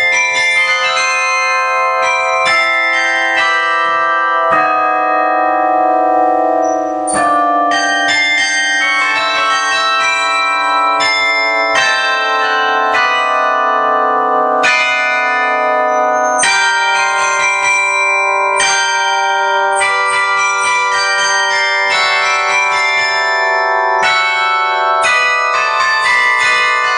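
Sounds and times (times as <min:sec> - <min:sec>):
carillon bells playing a melody: 0:00.0 - 0:26.9.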